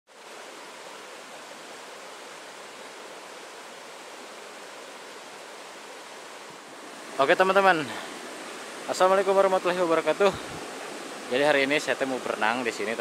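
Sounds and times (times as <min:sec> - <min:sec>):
river rushing over rocks: 0:00.1 - 0:13.0.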